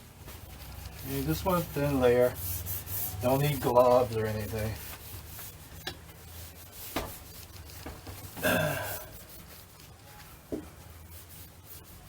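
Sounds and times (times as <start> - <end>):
rubbing on rubber seal: 0.2 - 12.0.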